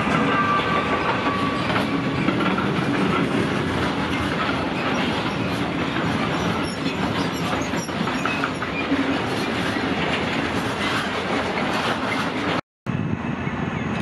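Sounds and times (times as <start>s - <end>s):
clickety-clack over rail joints: 0.0s - 12.6s
train wheels rumbling: 0.0s - 13.4s.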